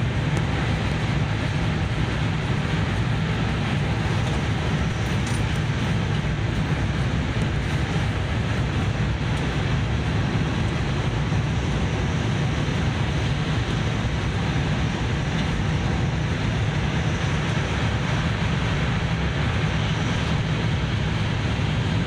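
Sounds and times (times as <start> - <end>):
train cabin rumble: 0.0 - 22.0.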